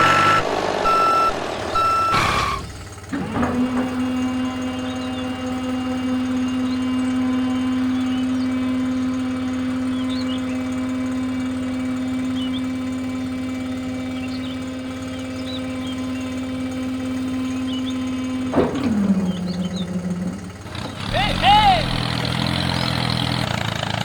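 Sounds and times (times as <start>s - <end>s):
small motor humming: 0.0s - 23.7s.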